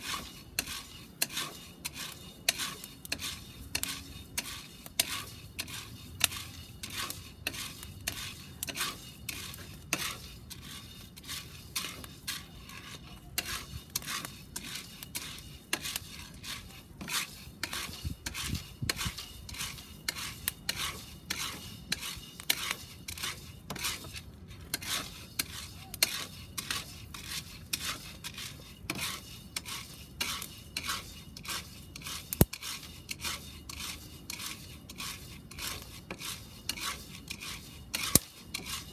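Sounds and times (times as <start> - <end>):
wooden spoon scraping pan: 0.0 - 38.9.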